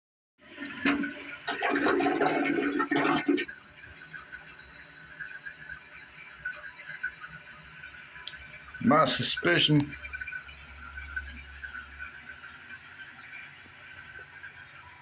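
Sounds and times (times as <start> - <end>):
toilet flushing water rush: 0.4 - 15.0
water trickling: 0.4 - 15.0.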